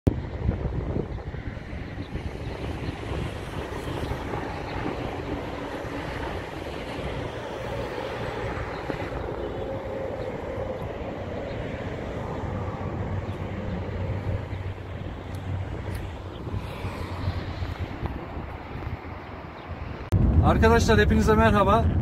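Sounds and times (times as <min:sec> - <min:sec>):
motorway traffic passing: 0:00.1 - 0:22.0.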